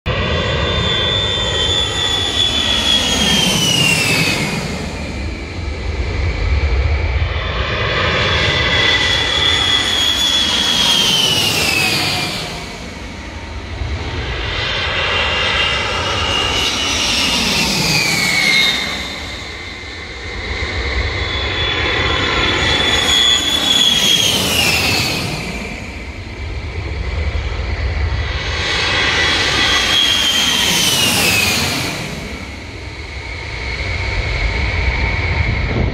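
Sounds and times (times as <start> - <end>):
jet engines whining over rumble: 0.0 - 35.9
jet aircraft passing low overhead: 0.1 - 35.9.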